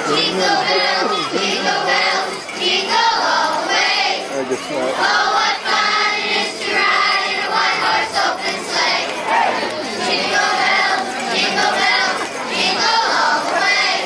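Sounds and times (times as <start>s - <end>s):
crowd singing together: 0.0s - 14.0s
people talking: 0.0s - 14.0s.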